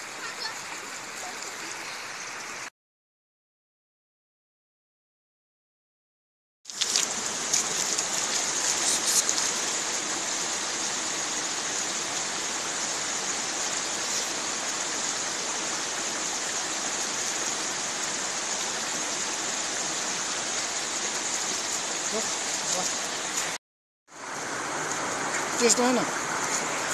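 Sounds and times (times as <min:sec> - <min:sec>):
river flowing over rocks: 0:00.0 - 0:02.7, 0:06.7 - 0:23.6, 0:24.2 - 0:26.9.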